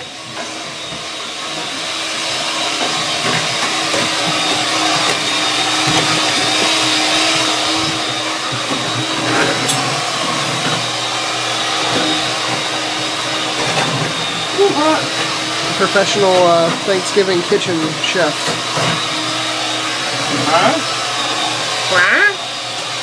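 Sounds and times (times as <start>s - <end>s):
electric hand mixer whirring: 0.0s - 23.0s.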